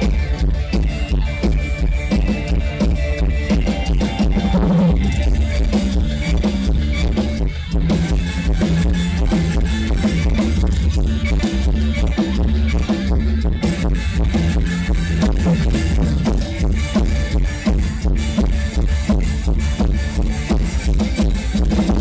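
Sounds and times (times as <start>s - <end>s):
loud music with heavy bass: 0.0s - 22.0s.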